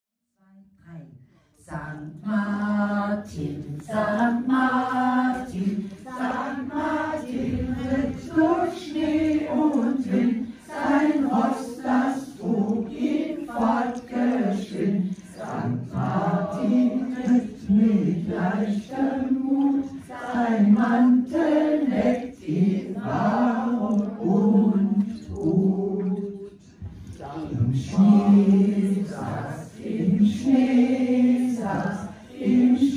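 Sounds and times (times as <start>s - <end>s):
group singing unaccompanied: 1.6s - 32.9s.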